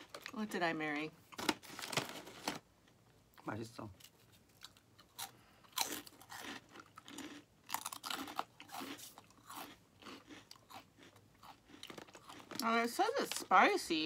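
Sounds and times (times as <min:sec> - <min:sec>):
crunching and chewing chips: 0:00.0 - 0:13.9.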